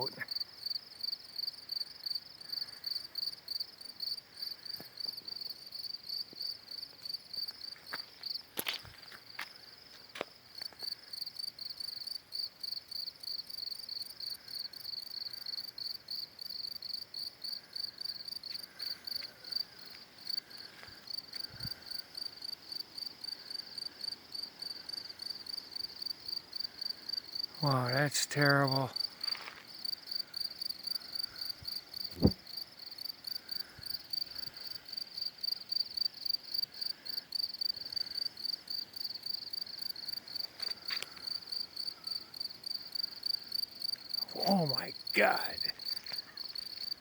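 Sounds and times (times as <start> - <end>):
cricket chirping: 0.0 - 47.0.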